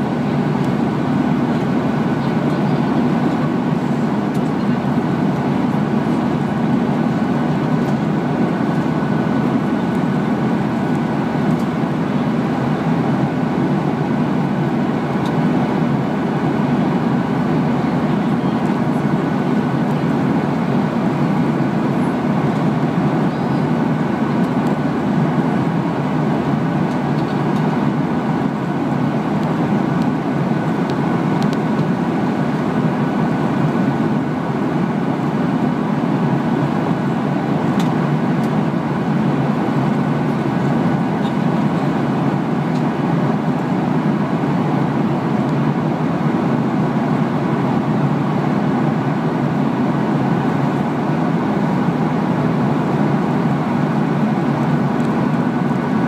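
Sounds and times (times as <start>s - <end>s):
airplane cabin engine drone: 0.0s - 56.0s.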